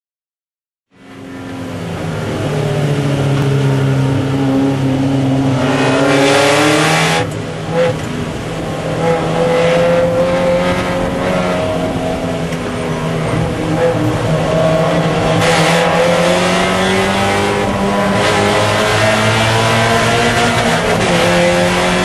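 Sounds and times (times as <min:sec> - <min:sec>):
race car engine accelerating: 0:01.1 - 0:22.0.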